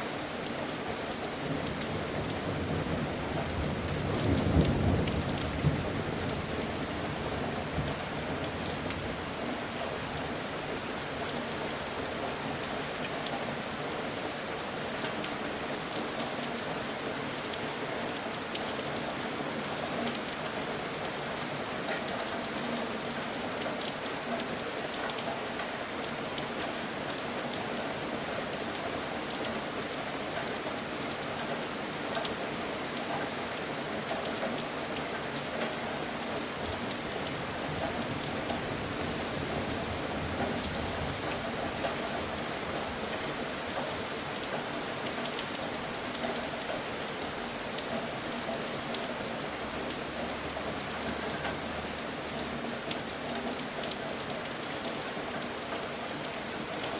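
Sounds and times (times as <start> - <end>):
raindrops ticking on surfaces: 0.0 - 56.9
steady rain hiss: 0.0 - 56.9.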